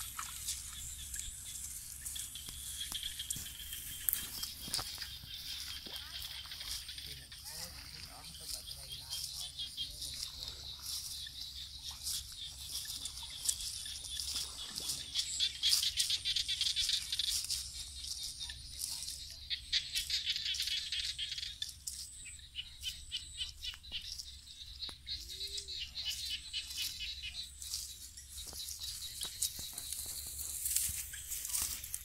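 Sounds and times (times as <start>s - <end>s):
dry leaves crunching underfoot: 0.0s - 22.1s, 23.7s - 32.0s.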